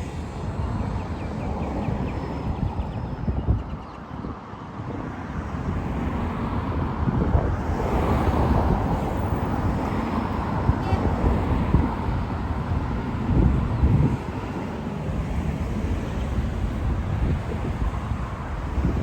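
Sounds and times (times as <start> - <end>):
street traffic: 0.0 - 19.0
wind buffeting microphone: 0.0 - 19.0.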